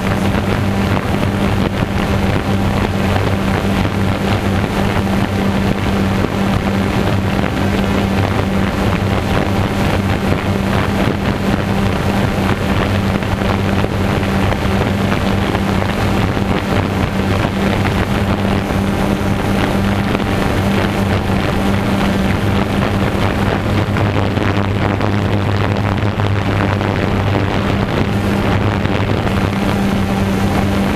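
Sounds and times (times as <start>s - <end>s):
drone propellers whirring: 0.0s - 30.9s
wind noise on microphone: 0.0s - 30.9s.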